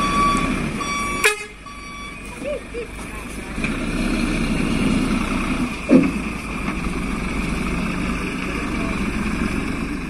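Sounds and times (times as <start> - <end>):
diesel truck engine driving away: 0.0 - 10.0.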